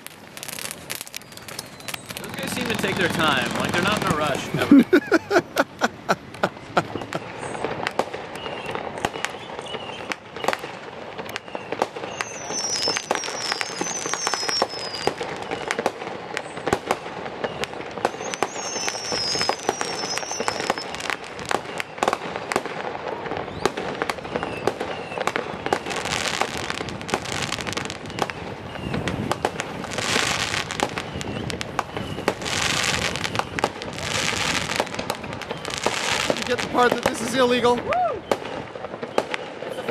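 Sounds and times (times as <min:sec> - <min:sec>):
fireworks falling whistles: 0:00.0 - 0:04.7, 0:06.2 - 0:39.9
fireworks pops and bangs: 0:00.0 - 0:04.8, 0:05.5 - 0:39.9
fireworks crackling: 0:00.0 - 0:39.9.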